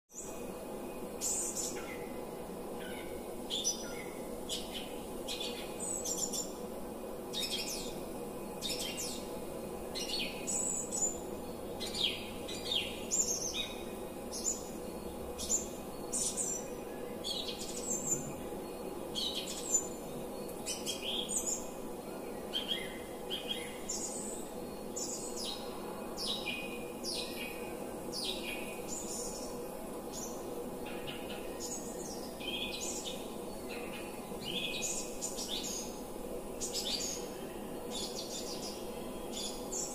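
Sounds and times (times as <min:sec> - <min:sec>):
birds chirping and twittering: 0:00.1 - 0:39.9.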